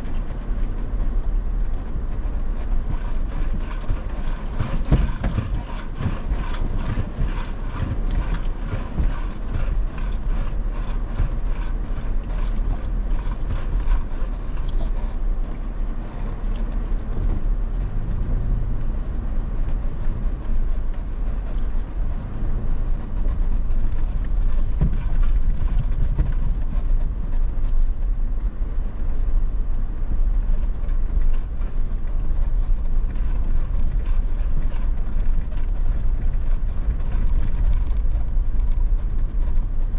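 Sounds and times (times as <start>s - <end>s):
off-road vehicle rumbling: 0.0s - 39.9s.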